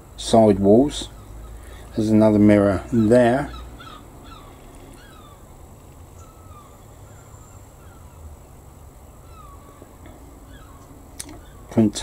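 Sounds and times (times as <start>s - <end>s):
steady low hum: 0.0s - 12.0s
faint bird chirps: 0.7s - 12.0s.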